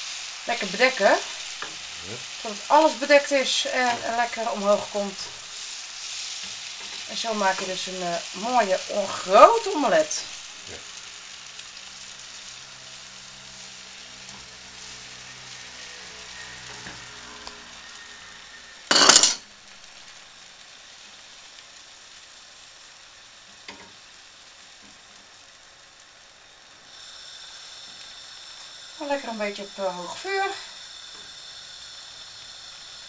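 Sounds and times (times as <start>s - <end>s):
eggs sizzling in frying pan: 0.0s - 33.0s.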